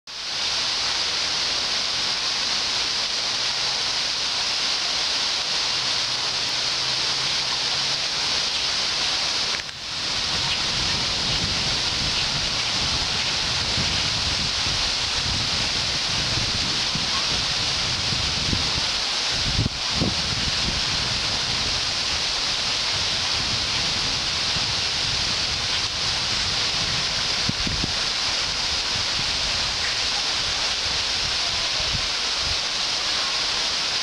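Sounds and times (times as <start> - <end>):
high-pitched background hiss: 0.1 - 34.0
wind rumbling on microphone: 6.3 - 34.0.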